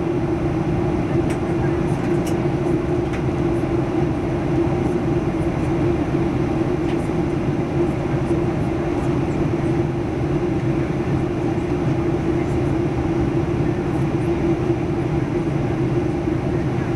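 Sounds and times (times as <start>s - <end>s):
aircraft engine drone: 0.0s - 16.9s.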